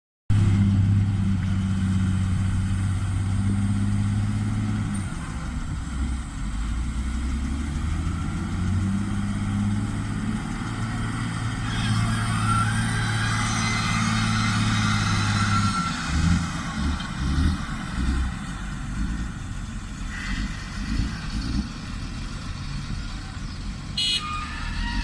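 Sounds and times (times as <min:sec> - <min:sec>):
heavy diesel engine running: 0:00.3 - 0:25.0.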